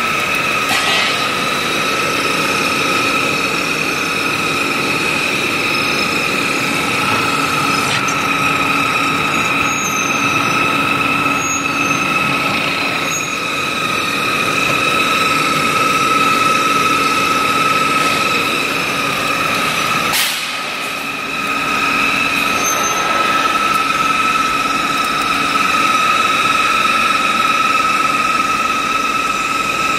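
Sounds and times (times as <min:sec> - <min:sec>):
bar peeling machine whining: 0:00.0 - 0:29.9.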